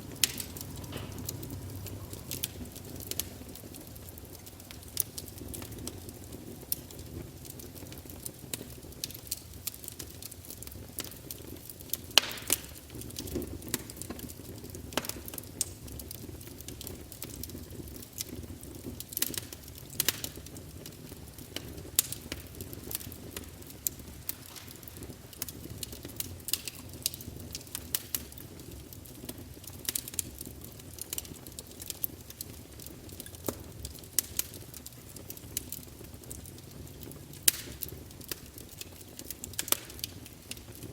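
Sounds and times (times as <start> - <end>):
fireplace fire crackling: 0.0 - 40.9.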